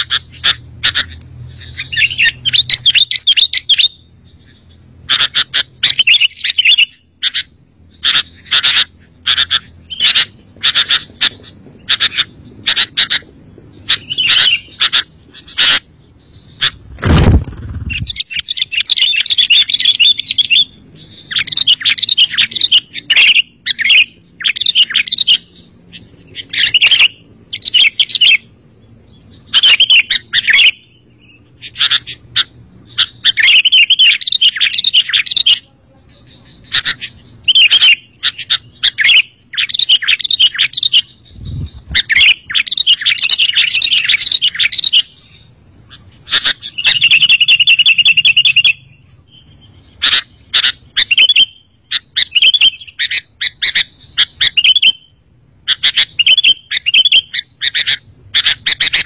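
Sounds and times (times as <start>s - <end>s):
bird chirping: 0.0s - 59.0s
bird trill: 0.0s - 59.0s.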